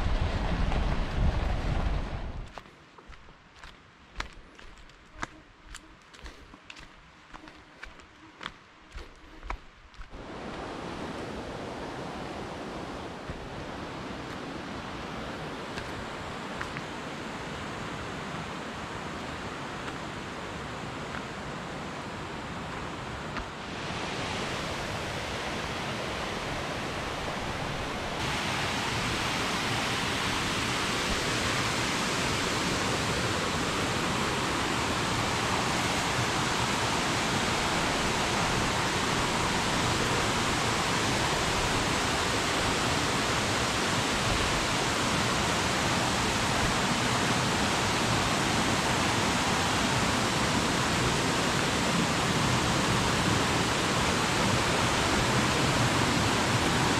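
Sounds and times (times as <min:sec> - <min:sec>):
creek and waterfall rushing: 0:06.8 - 0:56.9.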